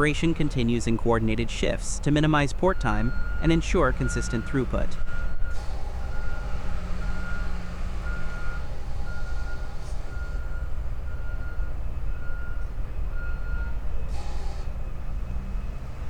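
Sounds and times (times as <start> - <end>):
heavy diesel machine running: 0.0 - 16.0
reversing alarm beeping: 0.0 - 16.0.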